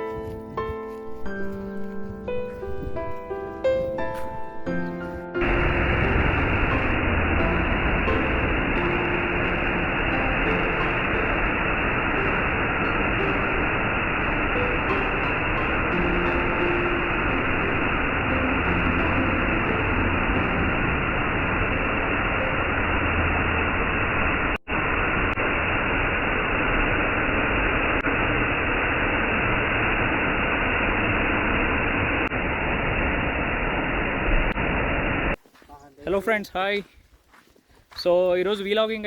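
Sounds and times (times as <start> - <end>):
steady rushing noise: 0.0 - 35.4.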